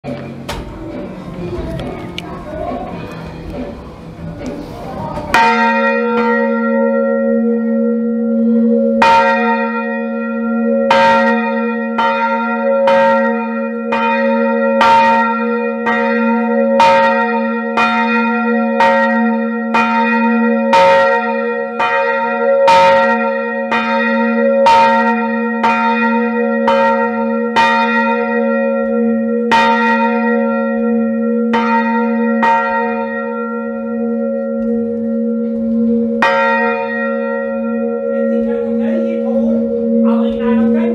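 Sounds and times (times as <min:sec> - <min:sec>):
church bell ringing: 0:05.3 - 0:40.9.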